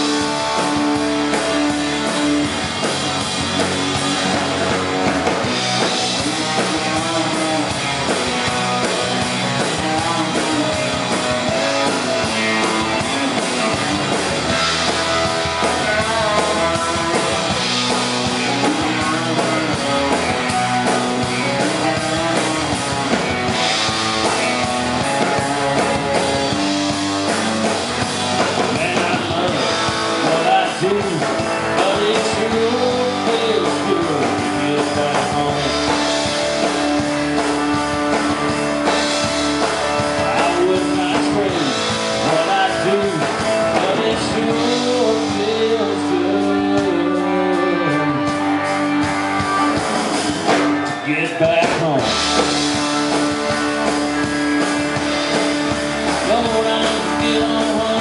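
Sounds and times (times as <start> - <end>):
acoustic guitars: 0.0 - 58.0
drums: 0.0 - 58.0
electric bass: 0.0 - 58.0.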